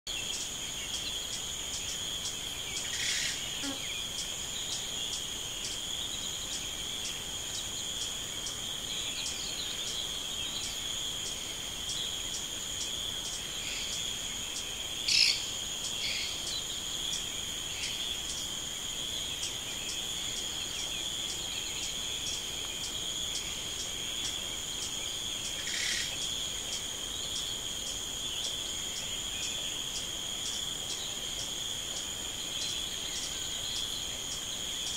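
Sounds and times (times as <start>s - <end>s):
insect chorus trilling: 0.1s - 34.9s.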